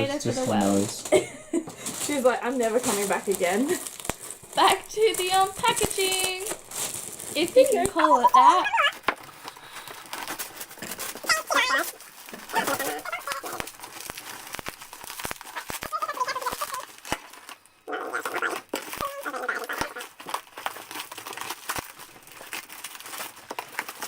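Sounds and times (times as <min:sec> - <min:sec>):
crinkling plastic and bubble wrap: 0:00.0 - 0:24.0
sharp clicks and crackles: 0:01.8 - 0:24.0.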